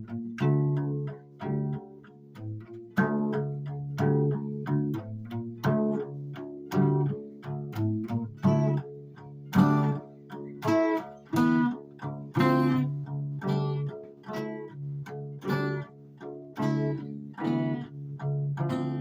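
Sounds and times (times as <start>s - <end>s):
plucked guitar music: 0.0s - 19.0s.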